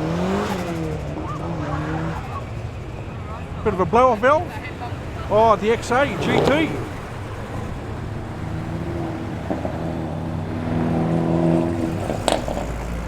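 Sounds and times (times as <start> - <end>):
car engine driving off: 0.0 - 13.0.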